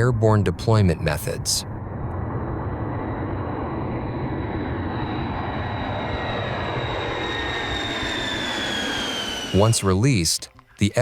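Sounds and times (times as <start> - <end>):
jet engine rumble: 0.0 - 11.0
high turbine whine: 1.2 - 10.5.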